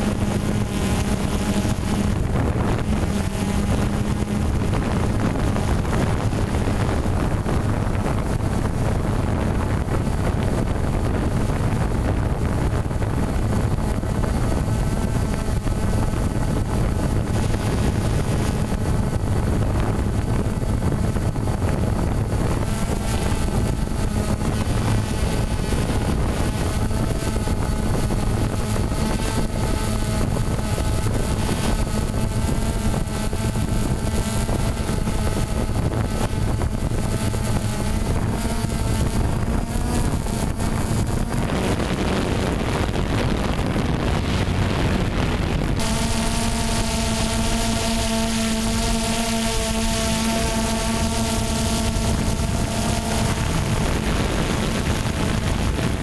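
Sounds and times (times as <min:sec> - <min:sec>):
drone motors and propellers: 0:00.0 - 0:56.0
thin multi-tone whine: 0:00.0 - 0:56.0
wind noise on microphone: 0:00.0 - 0:56.0.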